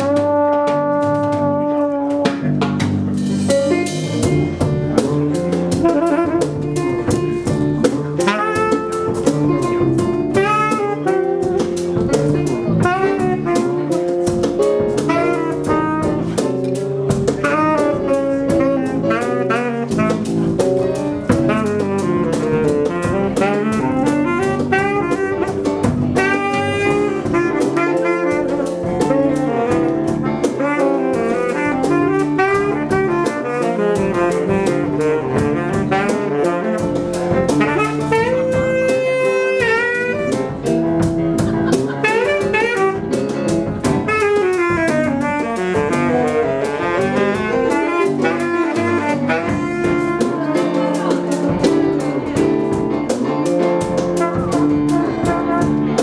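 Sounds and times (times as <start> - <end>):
saxophone melody: 0.0 - 2.6, 3.6 - 56.0
drum kit steady beat: 0.0 - 56.0
electric guitar: 0.0 - 56.0
trombone: 0.0 - 56.0.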